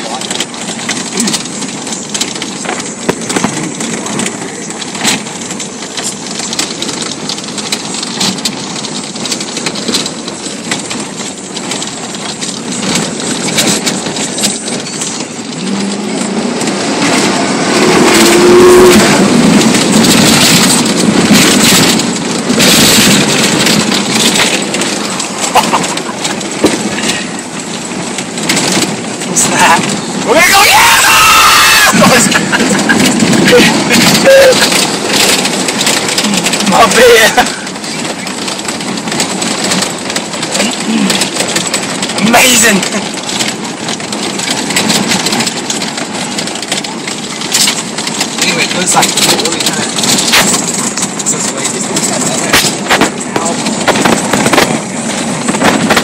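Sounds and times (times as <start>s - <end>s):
car engine and tyre noise: 0.0s - 56.0s
knocks and rattles over bumps: 0.0s - 56.0s.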